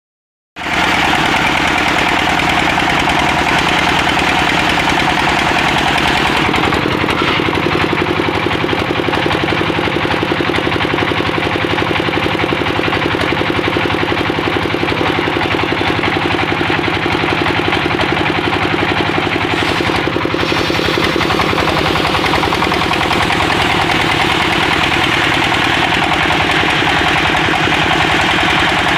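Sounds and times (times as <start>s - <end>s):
wood saw engine running: 0.6s - 28.9s.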